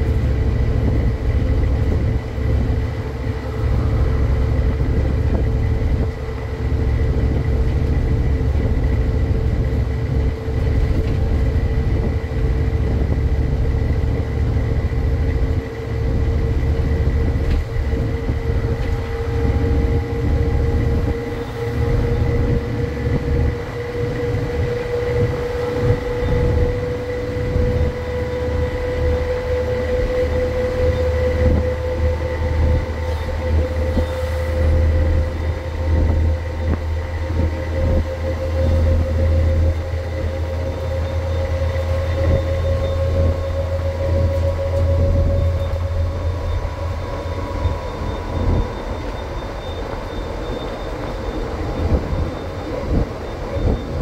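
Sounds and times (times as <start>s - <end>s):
bus diesel engine rumble: 0.0s - 54.0s
drivetrain whine: 0.0s - 54.0s.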